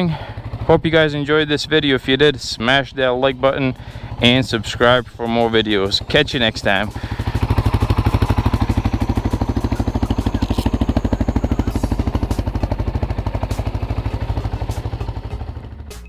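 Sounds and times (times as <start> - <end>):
engine idling chug: 0.0 - 16.0.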